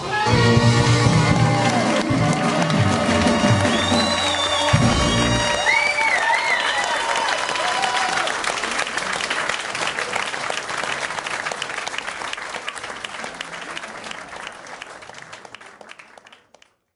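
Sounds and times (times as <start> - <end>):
audience applauding: 0.6 - 16.9.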